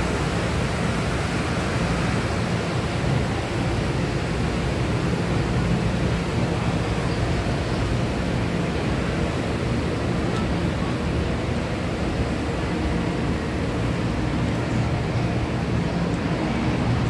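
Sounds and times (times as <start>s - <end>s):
diesel train engine rumbling: 0.0s - 17.0s.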